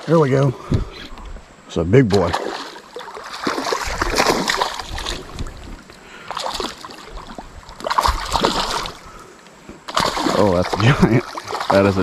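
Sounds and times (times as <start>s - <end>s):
water splashing: 2.0s - 12.0s.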